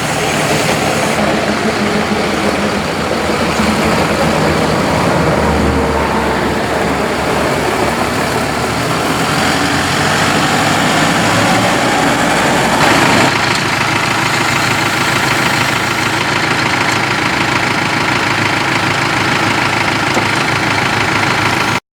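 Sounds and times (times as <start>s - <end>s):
tractor diesel engine idling: 0.0s - 21.8s.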